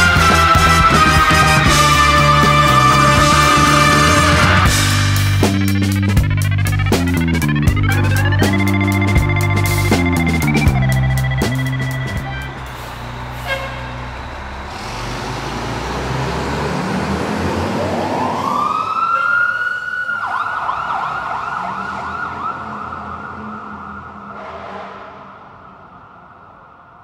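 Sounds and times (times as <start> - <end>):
fire engine siren wailing: 0.0 - 4.9, 7.6 - 27.0
vehicle noise: 0.0 - 27.0.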